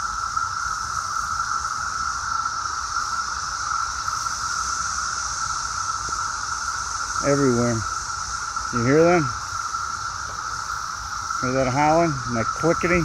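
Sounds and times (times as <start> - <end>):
cicadas droning: 0.0 - 13.0
high hiss: 0.0 - 13.0.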